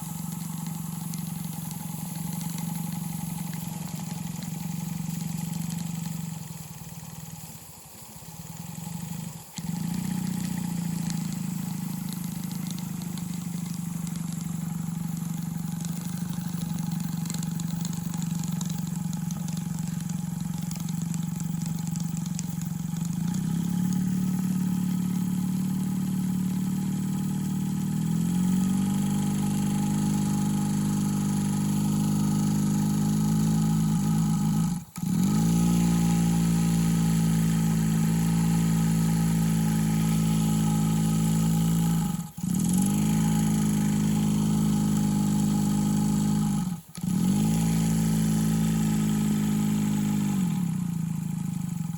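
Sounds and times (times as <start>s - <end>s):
model steam engine running: 0.0s - 51.9s.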